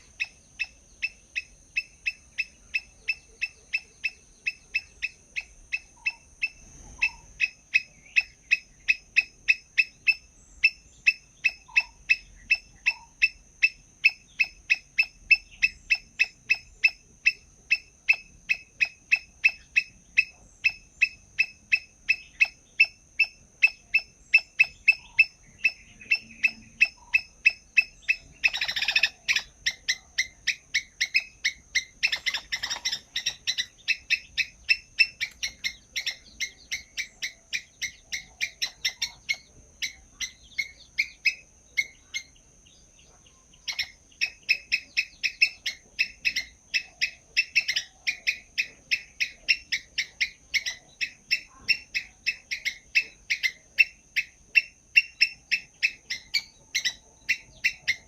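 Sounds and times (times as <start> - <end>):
bird chirping rapidly: 0.0 - 58.0.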